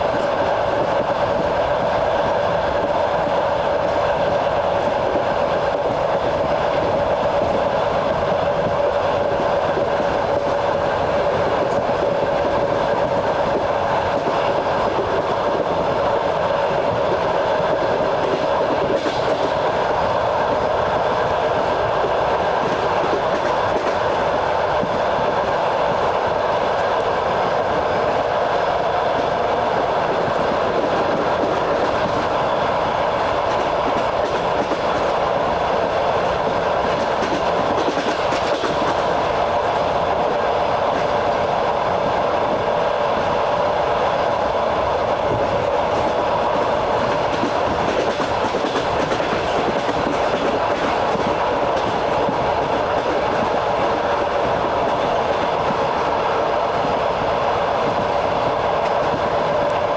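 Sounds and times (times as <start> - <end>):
train cars rumbling: 0.0 - 59.9
wheels clattering on rails: 0.0 - 59.9.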